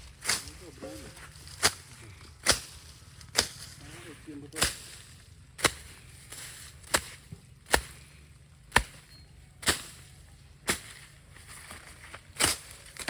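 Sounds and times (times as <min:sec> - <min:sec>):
hand tool chopping: 0:01.5 - 0:03.8, 0:04.6 - 0:13.0.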